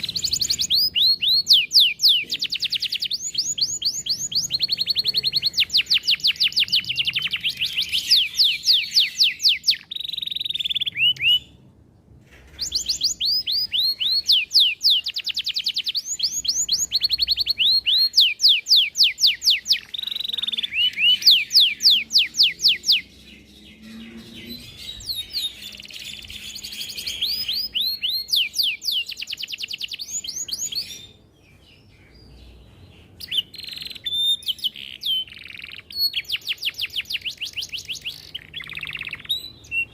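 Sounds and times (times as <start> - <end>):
canary singing trills: 0.0 - 11.7, 12.5 - 39.9.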